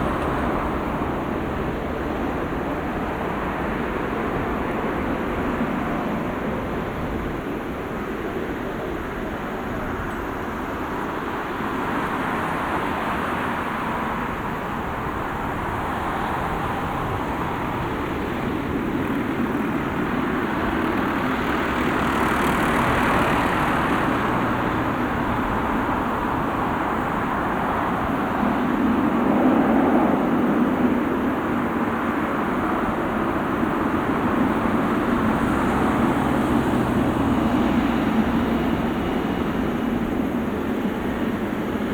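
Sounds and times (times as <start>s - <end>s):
jet engines roaring at takeoff: 0.0s - 41.9s.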